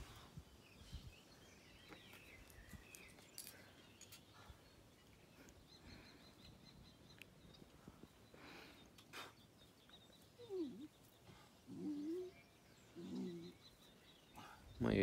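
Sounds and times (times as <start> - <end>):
faint bird calls: 1.9 - 15.0.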